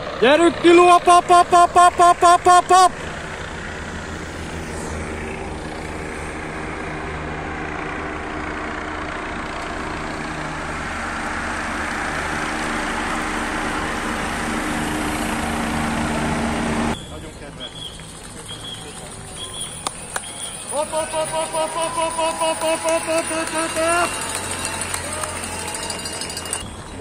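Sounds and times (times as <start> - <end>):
bicycles whirring past: 0.0 - 27.0
vehicle engine hum: 0.0 - 27.0.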